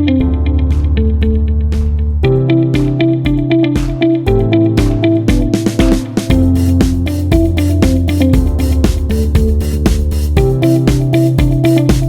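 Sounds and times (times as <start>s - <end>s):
background music with steady beat: 0.0s - 12.0s
plucked guitar-like melody: 0.0s - 12.0s.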